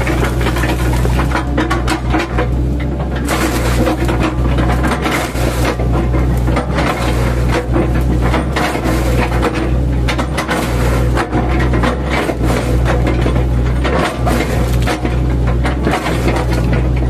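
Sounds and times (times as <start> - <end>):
excavator engine running: 0.0 - 17.0
wood crunching and splintering: 0.0 - 17.0.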